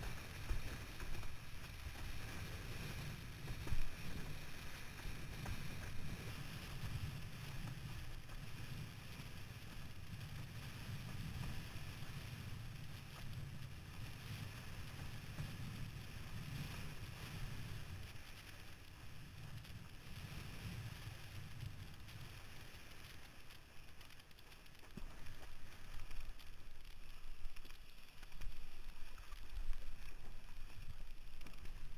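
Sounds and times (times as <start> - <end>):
water rushing under board: 0.0 - 31.9.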